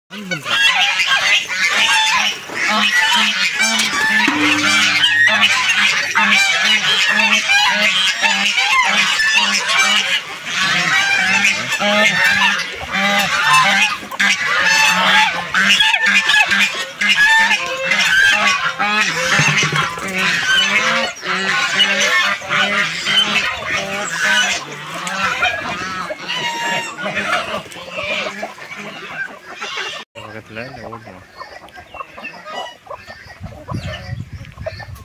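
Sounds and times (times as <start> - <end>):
chickens calling: 0.2 - 6.2, 7.8 - 35.0
geese honking: 0.3 - 30.0.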